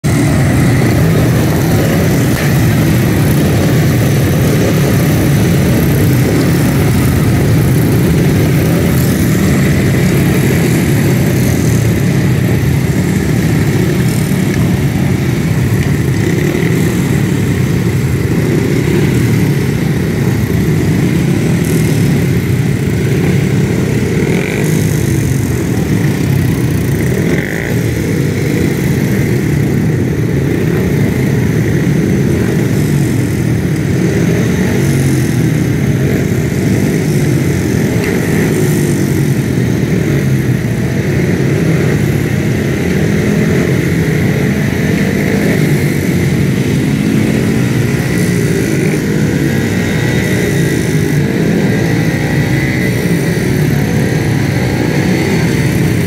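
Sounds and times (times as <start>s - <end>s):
motorcycle engines running loudly: 0.0s - 56.0s.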